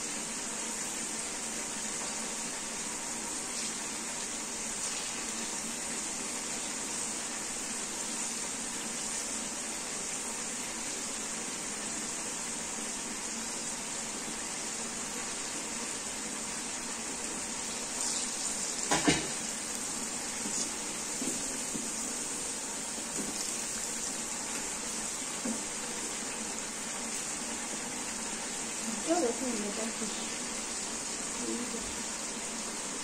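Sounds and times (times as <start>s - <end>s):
beans deep-frying in oil: 0.0s - 33.0s.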